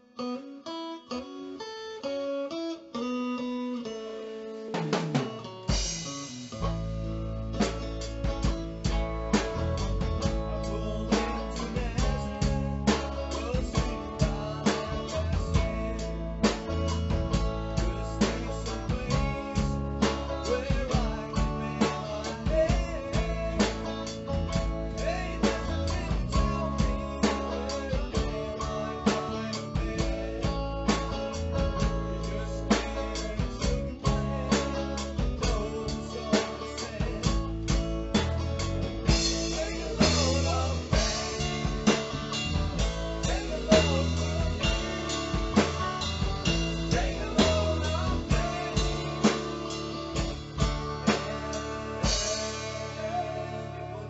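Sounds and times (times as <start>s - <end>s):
guitar: 0.0s - 54.0s
drum kit steady beat: 4.7s - 53.8s
bass line: 5.7s - 54.0s.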